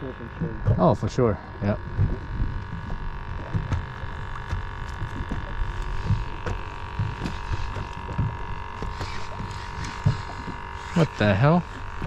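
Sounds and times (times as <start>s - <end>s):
boat motor humming: 0.0s - 12.0s
wind and water rumbling knocks: 0.0s - 12.0s.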